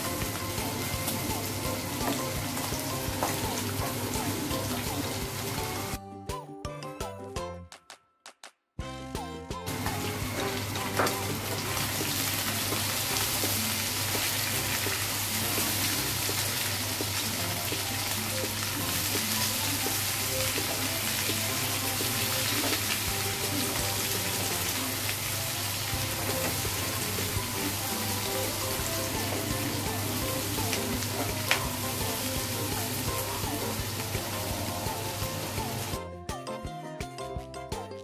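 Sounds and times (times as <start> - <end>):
onions and meat sizzling in oil: 0.0 - 6.0, 9.7 - 36.0.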